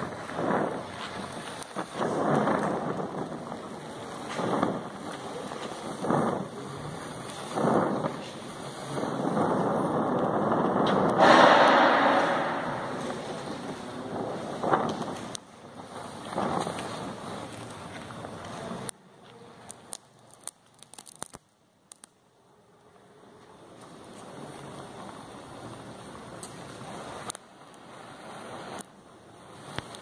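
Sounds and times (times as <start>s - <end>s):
welding torch flame hissing: 0.0s - 22.2s, 24.0s - 30.0s.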